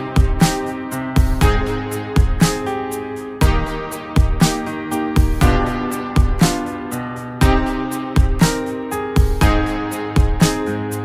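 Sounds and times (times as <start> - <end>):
electronic music with plucked notes: 0.0 - 11.0.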